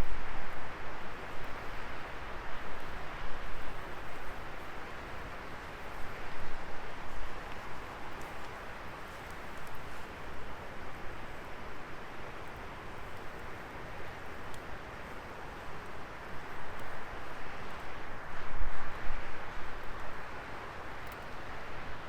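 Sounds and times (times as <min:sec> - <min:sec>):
faint fire crackles: 0:00.0 - 0:22.0.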